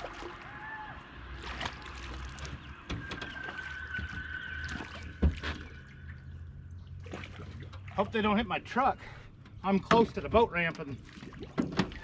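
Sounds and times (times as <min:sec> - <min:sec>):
water splashing: 0:00.0 - 0:00.6, 0:01.2 - 0:08.5, 0:10.0 - 0:12.0.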